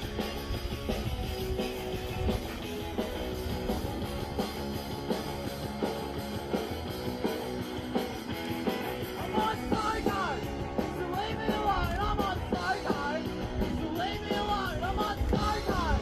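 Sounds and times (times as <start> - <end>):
drum beat: 0.0 - 16.0
strummed guitar: 0.0 - 16.0.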